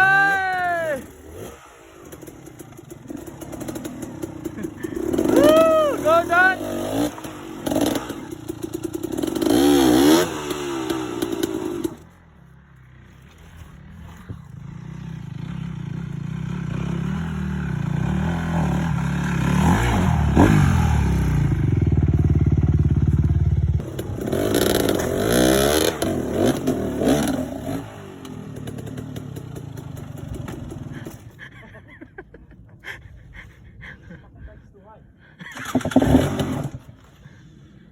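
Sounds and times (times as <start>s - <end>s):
dirt bike engine revving: 0.0s - 12.2s, 13.0s - 31.3s, 35.5s - 37.1s.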